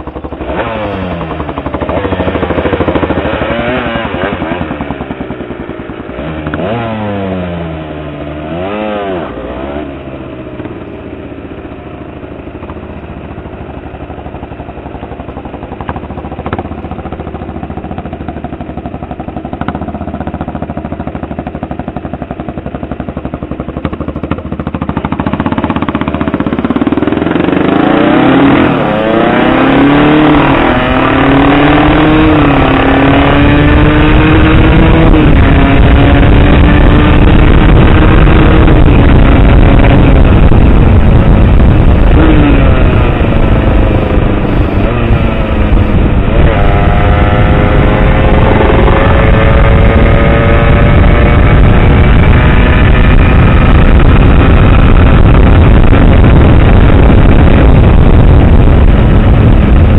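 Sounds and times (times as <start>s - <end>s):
wind rushing over microphone: 0.0s - 10.6s, 11.9s - 59.9s
motorcycle engine revving: 0.0s - 59.9s.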